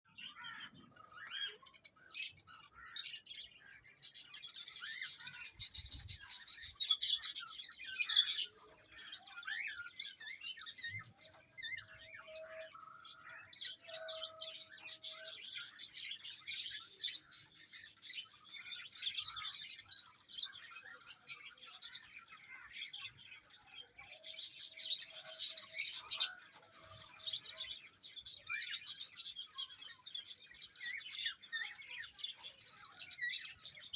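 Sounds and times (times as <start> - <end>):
lovebirds chirping and twittering: 0.0 - 33.9.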